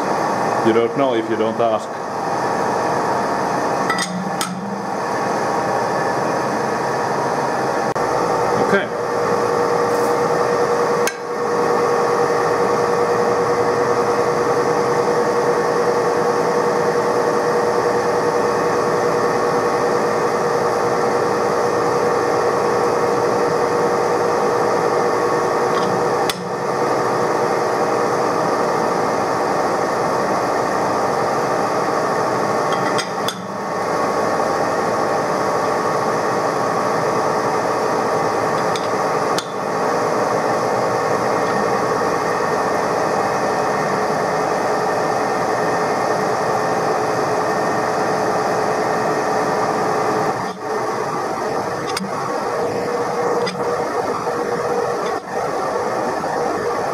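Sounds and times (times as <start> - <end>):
lathe geared hum: 0.0 - 56.9.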